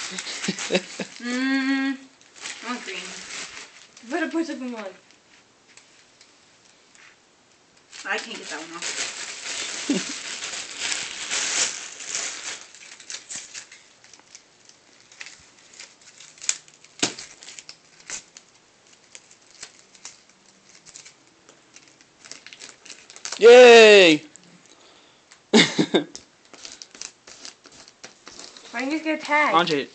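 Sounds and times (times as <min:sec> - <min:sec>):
plastic bag crinkling: 0:00.0 - 0:07.1, 0:07.8 - 0:29.9
gift bows rustling: 0:00.0 - 0:07.2, 0:07.8 - 0:25.0, 0:25.6 - 0:29.9.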